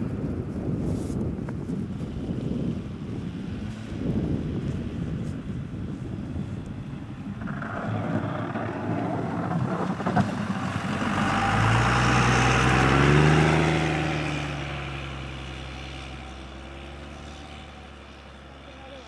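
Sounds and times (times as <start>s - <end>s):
truck driving past through snow: 2.2s - 19.0s.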